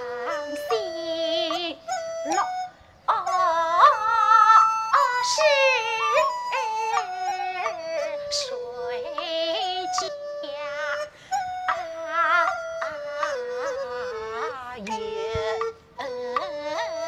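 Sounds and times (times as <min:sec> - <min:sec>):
high sung opera melody: 0:00.0 - 0:17.0
instrumental accompaniment: 0:00.0 - 0:17.0.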